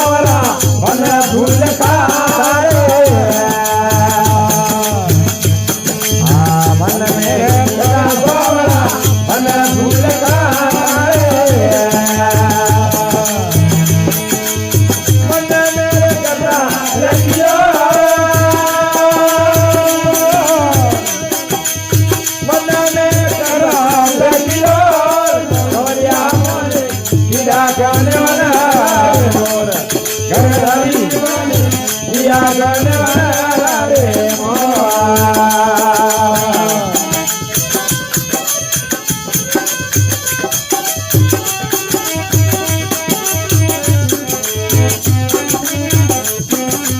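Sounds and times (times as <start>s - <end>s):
jingling rattle percussion: 0.0s - 46.9s
steady drum beat: 0.0s - 46.9s.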